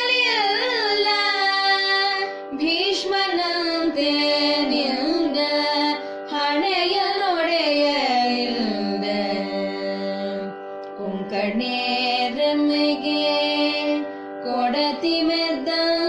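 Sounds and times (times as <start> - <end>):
woman singing ornamented melody: 0.0 - 16.0.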